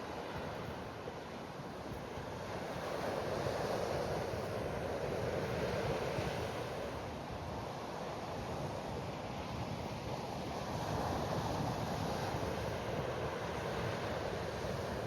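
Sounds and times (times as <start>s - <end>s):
sea waves washing onto beach: 0.0s - 15.0s.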